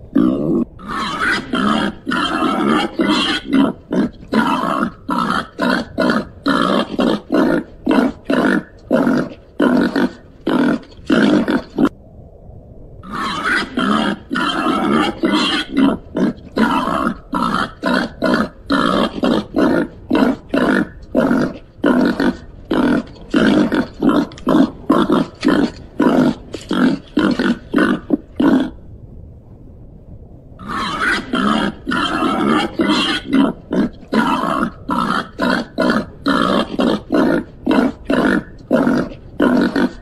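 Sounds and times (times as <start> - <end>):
pig grunting: 0.0 - 11.9, 13.0 - 28.8, 30.6 - 40.0.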